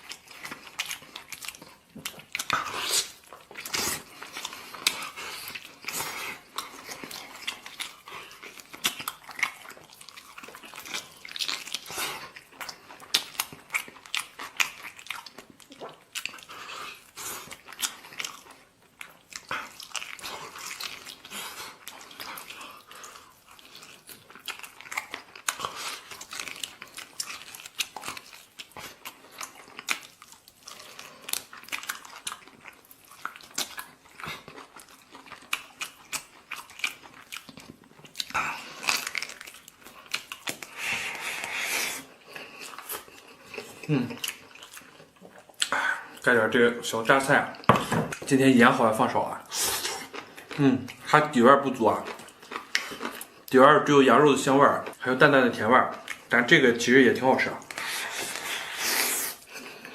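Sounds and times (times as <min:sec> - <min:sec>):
person chewing and smacking: 0:00.0 - 0:59.9.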